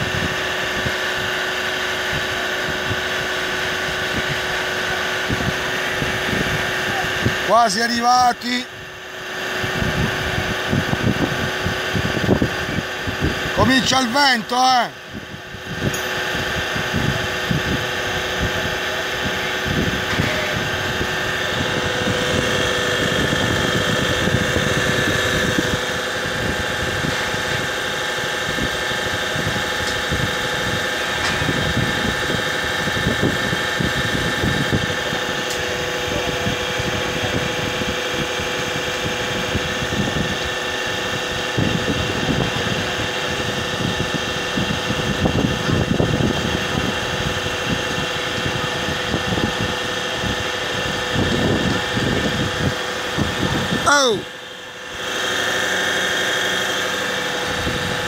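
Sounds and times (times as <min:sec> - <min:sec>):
steady machine hum: 0:00.0 - 0:58.0
wind buffeting microphone: 0:02.0 - 0:07.5, 0:09.6 - 0:13.6, 0:15.0 - 0:40.6, 0:41.3 - 0:53.8.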